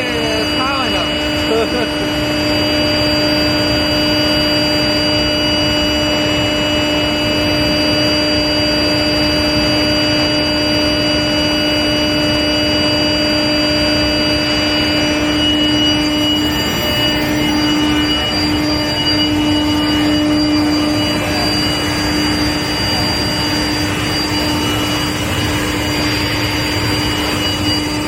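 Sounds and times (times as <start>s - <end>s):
machine hum: 0.0s - 28.0s
machine whining tones: 0.0s - 28.0s.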